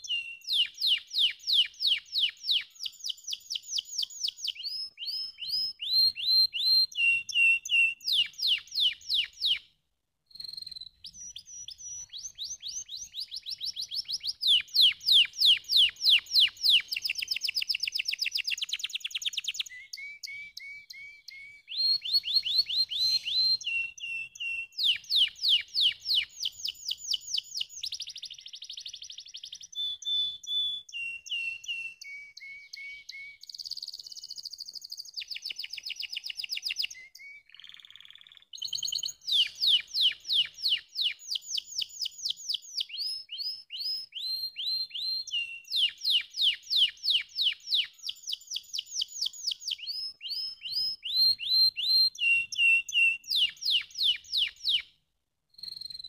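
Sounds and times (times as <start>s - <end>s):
canary singing fast trills: 0.0s - 56.0s.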